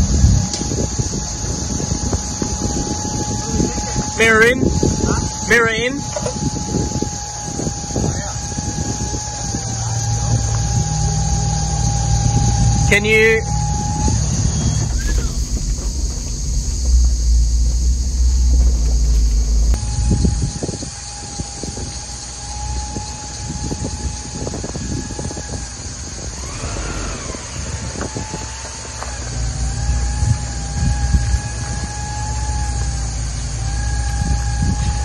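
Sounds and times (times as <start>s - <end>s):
high-pitched hum: 0.0s - 35.0s
off-road vehicle engine at low revs: 0.0s - 35.0s
tyres and suspension crunching: 0.0s - 35.0s.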